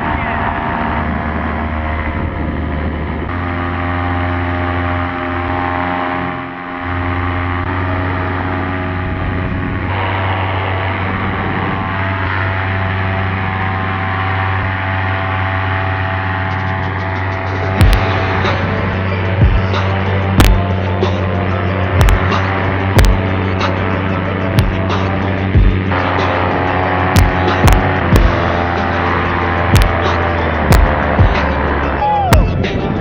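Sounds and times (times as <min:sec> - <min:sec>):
paramotor engine drone: 0:00.0 - 0:33.0.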